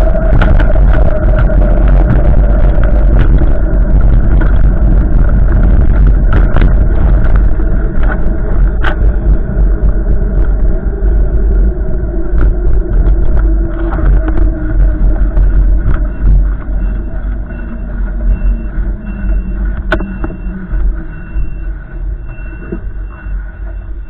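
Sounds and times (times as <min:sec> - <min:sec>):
sharp clicks and rattles: 0:00.0 - 0:24.0
strong wind on microphone: 0:00.0 - 0:24.0.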